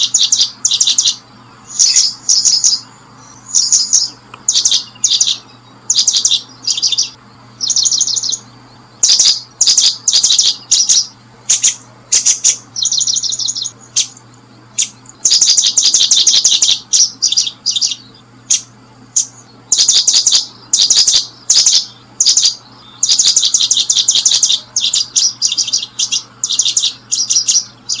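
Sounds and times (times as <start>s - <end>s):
small birds chirping trills: 0.0s - 28.0s.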